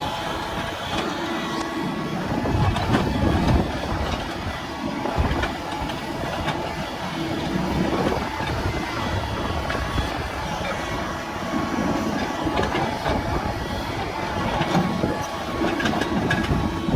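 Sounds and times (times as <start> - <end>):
excavator diesel engine: 0.0 - 16.9
machine whine: 0.0 - 16.9.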